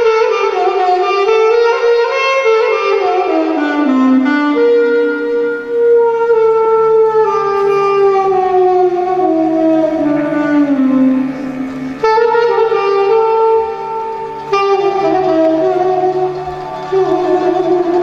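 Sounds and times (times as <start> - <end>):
reed wind instrument melody: 0.0 - 18.0.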